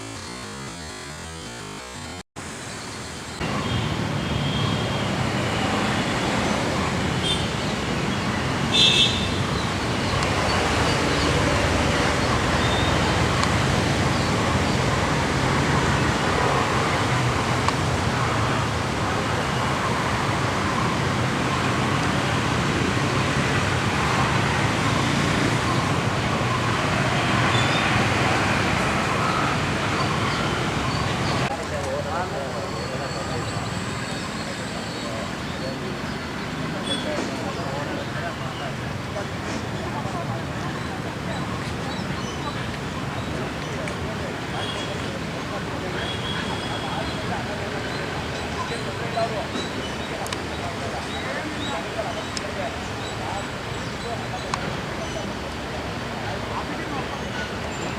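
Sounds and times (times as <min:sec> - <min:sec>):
road traffic noise: 0:00.0 - 0:57.9.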